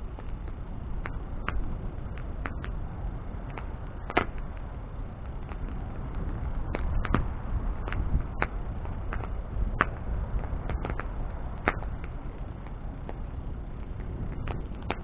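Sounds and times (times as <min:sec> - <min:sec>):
bonfire burning with crackles: 0:00.0 - 0:15.0.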